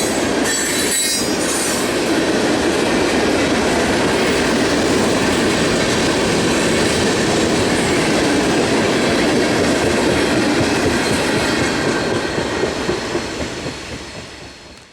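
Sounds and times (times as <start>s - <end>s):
freight train rumbling: 0.0s - 14.9s.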